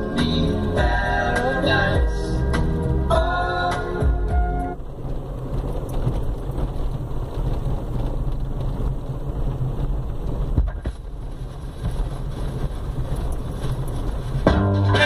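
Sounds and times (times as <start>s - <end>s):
moving vehicle rumble: 0.0s - 15.0s
road noise: 0.0s - 15.0s.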